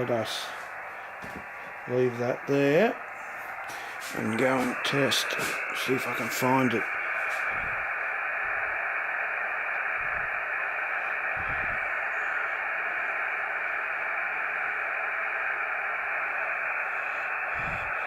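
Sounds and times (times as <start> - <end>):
radio receiver hiss: 0.0 - 18.0.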